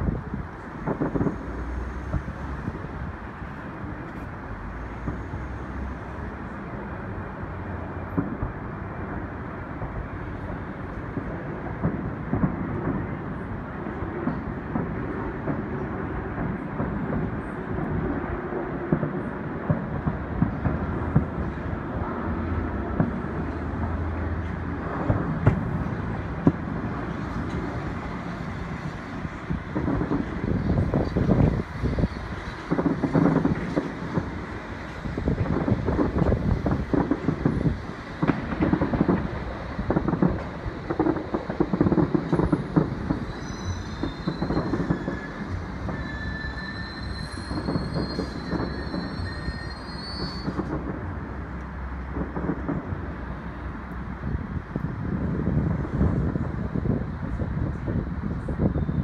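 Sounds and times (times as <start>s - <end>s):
distant firework bangs: 0.0s - 6.7s, 8.0s - 54.0s
city noise: 0.0s - 59.0s
wind rumble: 0.0s - 59.0s.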